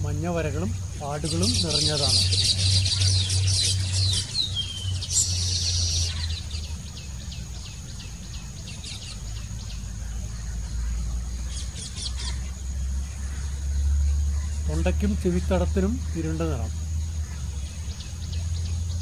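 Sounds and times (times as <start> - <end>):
birds chattering: 0.0 - 19.0.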